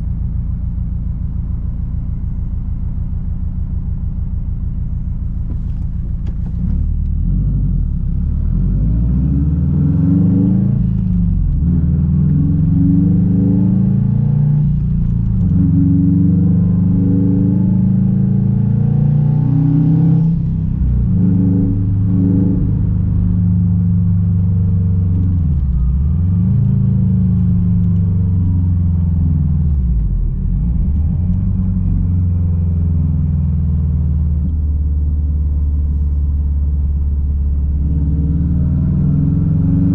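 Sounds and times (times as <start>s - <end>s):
car engine revving: 5.4s - 39.9s.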